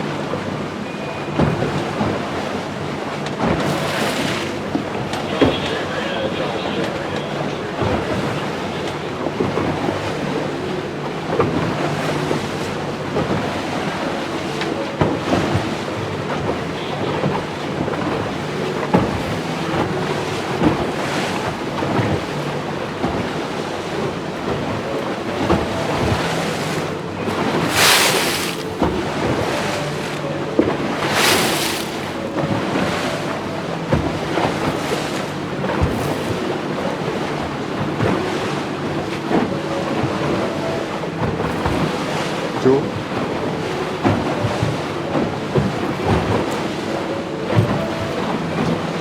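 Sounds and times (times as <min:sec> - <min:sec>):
water rushing past boat: 0:00.0 - 0:49.0.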